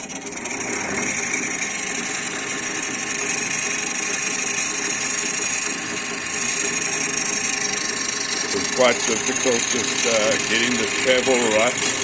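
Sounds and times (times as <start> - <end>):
grinder motor running: 0.0 - 12.0
grinding wheel on steel blade: 0.0 - 12.0.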